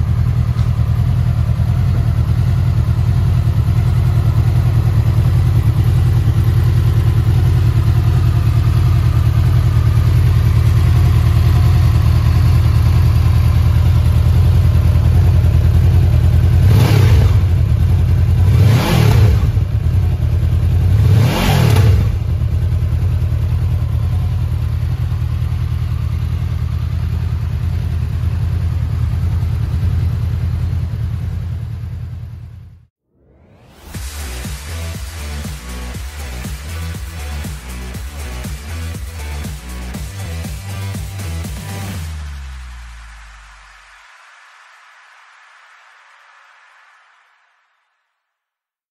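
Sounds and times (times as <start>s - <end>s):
motorcycle engine idling and revving: 0.0s - 33.0s, 33.6s - 43.6s.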